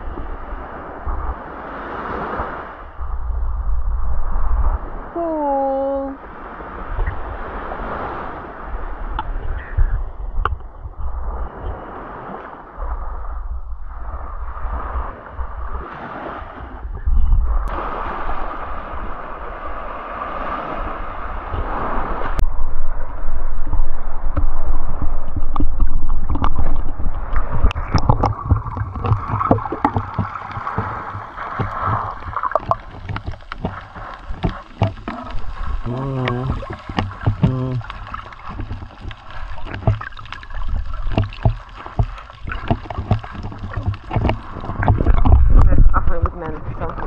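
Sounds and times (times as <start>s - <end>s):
water splashing around kayak: 0.0s - 47.0s
wind rumble on microphone: 0.0s - 47.0s.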